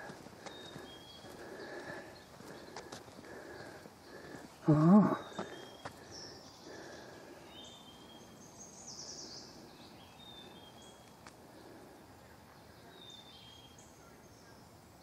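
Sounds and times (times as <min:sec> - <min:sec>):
birds chirping: 0:00.0 - 0:15.0
outdoor background hiss: 0:00.0 - 0:15.0.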